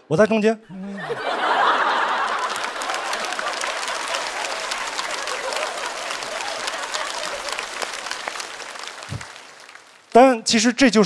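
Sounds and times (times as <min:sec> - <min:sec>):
audience applauding: 0:01.2 - 0:10.3.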